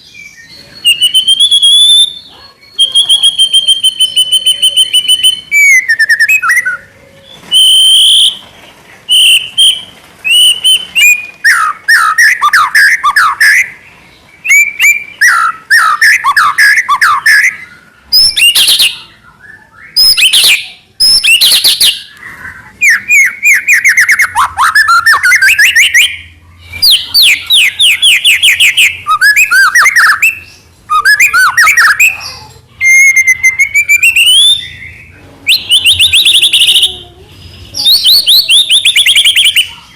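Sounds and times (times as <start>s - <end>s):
bird singing whistles and trills: 0.0s - 8.5s, 9.1s - 13.8s, 14.4s - 37.0s, 37.6s - 39.9s.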